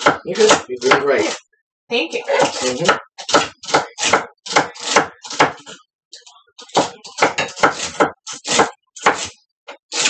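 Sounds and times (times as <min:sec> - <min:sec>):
knife chopping on wooden board: 0:00.0 - 0:01.4, 0:02.3 - 0:05.8, 0:06.6 - 0:10.0.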